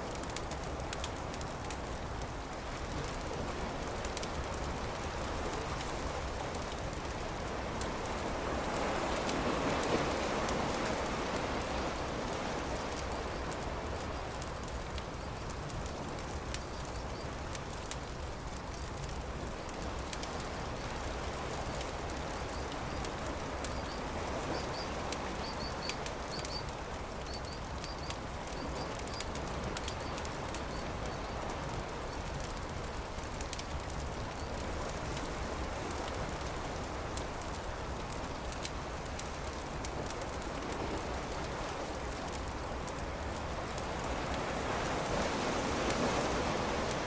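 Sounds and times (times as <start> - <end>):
beach surf: 0.0 - 47.0
campfire crackling: 0.0 - 47.0.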